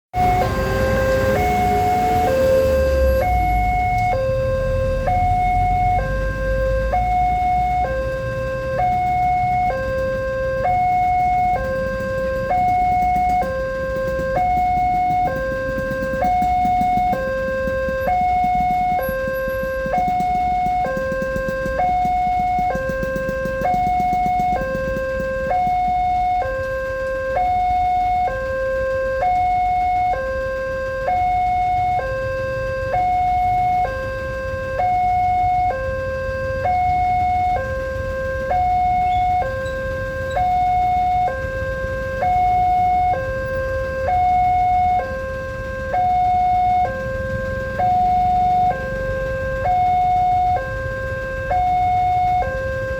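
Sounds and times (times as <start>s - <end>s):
two-tone level crossing alarm: 0.1s - 52.9s.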